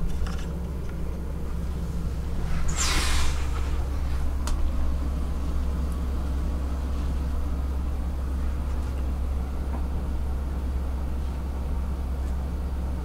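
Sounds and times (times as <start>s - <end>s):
train rumble from inside carriage: 0.0s - 13.0s.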